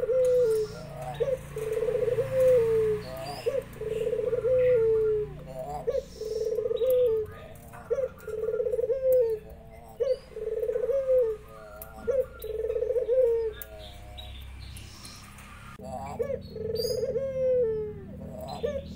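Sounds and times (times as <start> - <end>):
dove cooing: 0.0 - 18.9.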